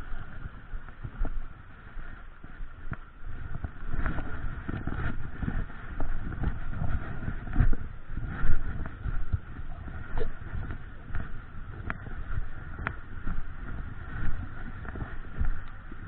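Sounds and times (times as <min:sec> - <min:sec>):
footsteps wading in stream: 0:00.0 - 0:16.0.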